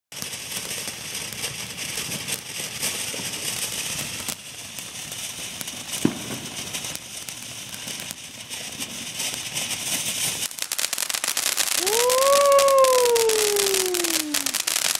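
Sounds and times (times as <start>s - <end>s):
fireworks crackling: 0.1s - 14.9s.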